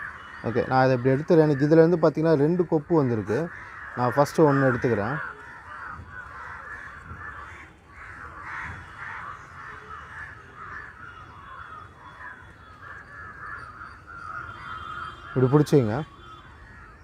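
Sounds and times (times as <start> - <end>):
crows cawing: 0.0 - 17.0.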